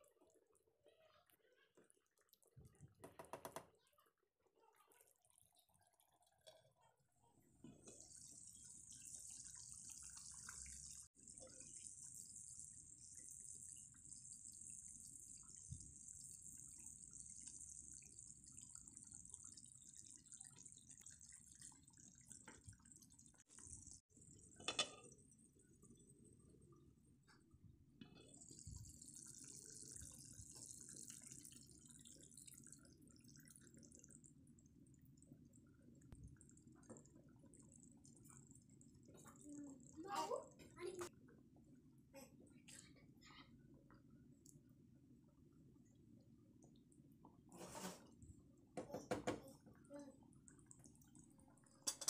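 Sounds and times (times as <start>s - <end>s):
curry bubbling in a pan: 0.0s - 27.2s, 27.8s - 42.0s, 43.9s - 52.0s.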